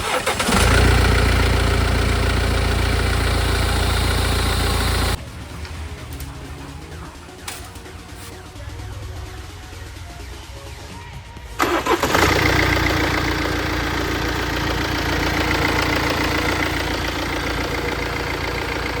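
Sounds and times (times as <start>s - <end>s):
car engine cranking: 0.0s - 10.0s, 11.6s - 19.0s
car engine idling: 0.0s - 19.0s.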